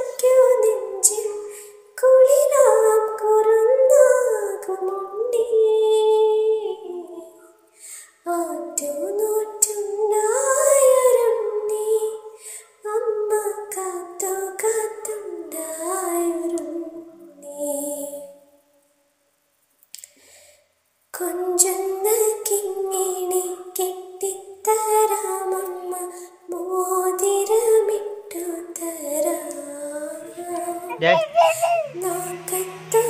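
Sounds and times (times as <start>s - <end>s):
woman singing: 0.0s - 7.5s, 8.2s - 18.4s, 21.2s - 33.0s.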